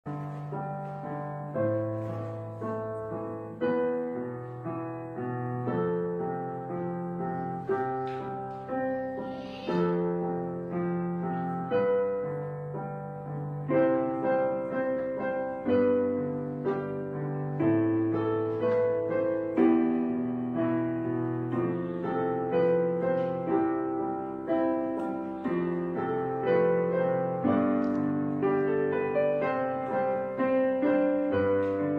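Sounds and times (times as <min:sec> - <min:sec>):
gentle solo piano music: 0:00.0 - 0:31.9.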